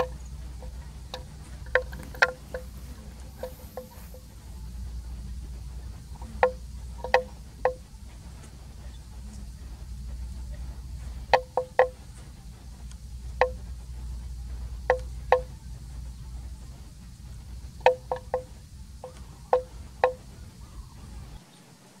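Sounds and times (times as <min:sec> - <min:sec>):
neck bell clanking: 0:00.0 - 0:20.6
low steady rumble: 0:00.0 - 0:22.0.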